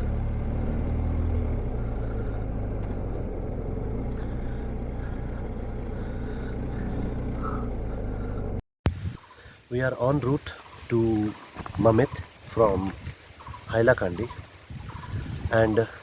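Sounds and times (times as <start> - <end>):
motorcycle engine running: 0.0 - 8.6, 11.5 - 16.0.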